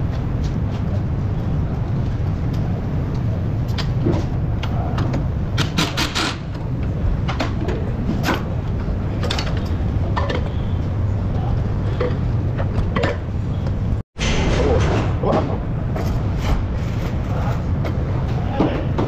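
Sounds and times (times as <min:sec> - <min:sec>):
low workshop hum: 0:00.0 - 0:19.0.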